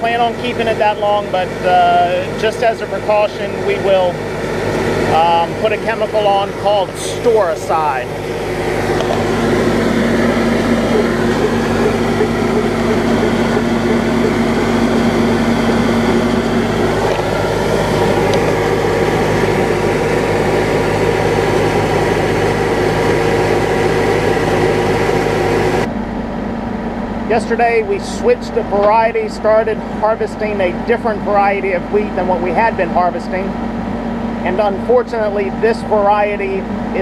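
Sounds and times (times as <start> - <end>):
grain dryer fan: 0.0 - 37.0
tractor engine running: 0.0 - 37.0.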